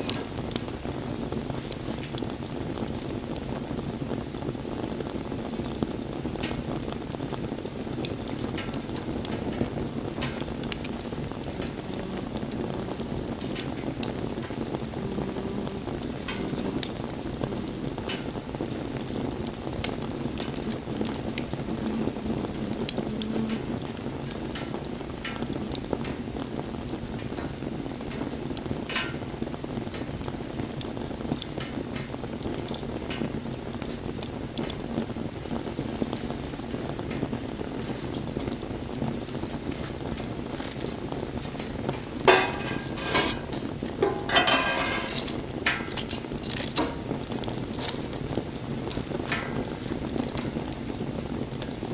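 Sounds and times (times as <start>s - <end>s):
fire crackles and pops: 0.0s - 51.9s
rush of flames: 0.0s - 51.9s.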